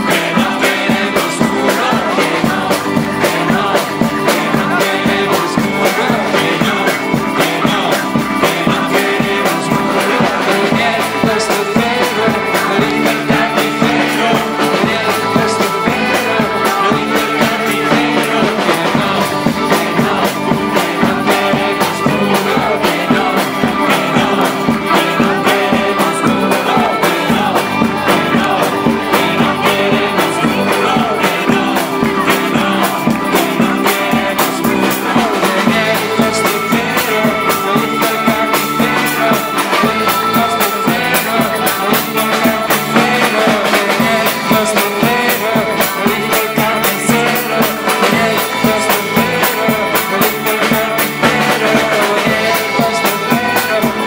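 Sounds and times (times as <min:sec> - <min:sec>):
rock music with guitar and drums: 0:00.0 - 0:54.0.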